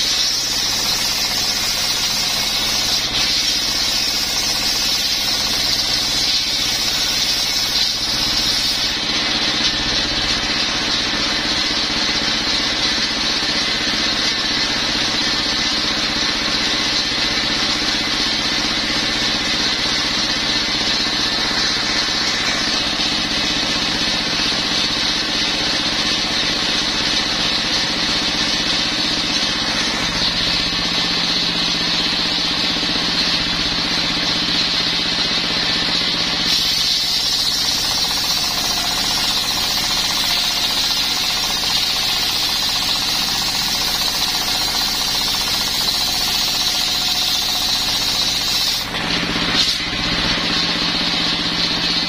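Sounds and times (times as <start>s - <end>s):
circular saw blade whining: 0.0s - 12.4s, 17.4s - 52.0s
diesel engine running: 0.0s - 52.0s.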